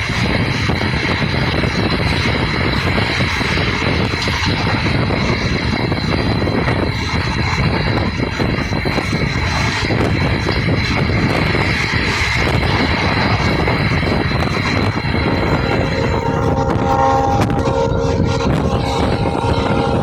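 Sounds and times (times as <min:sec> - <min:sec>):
steady mid-pitched tones: 0:00.0 - 0:20.0
thin high whine: 0:00.0 - 0:20.0
train wheels rumbling on rails: 0:00.0 - 0:20.0.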